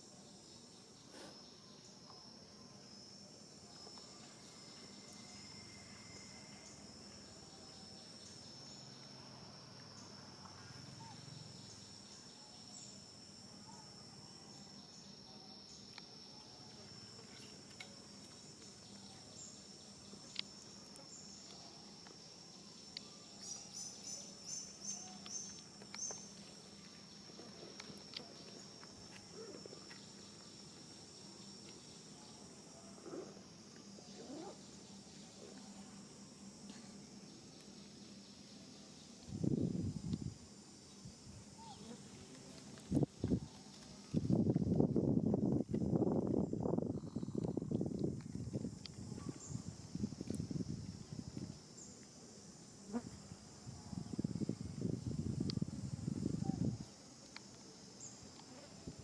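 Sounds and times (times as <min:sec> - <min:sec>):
crickets droning: 0:00.0 - 0:59.0.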